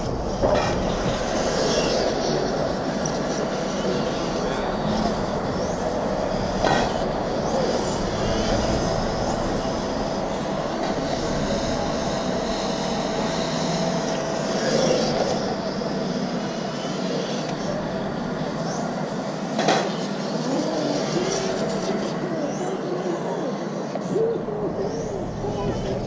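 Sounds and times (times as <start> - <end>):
electric motor whine: 0.0 - 26.0
steady background rush: 0.0 - 26.0.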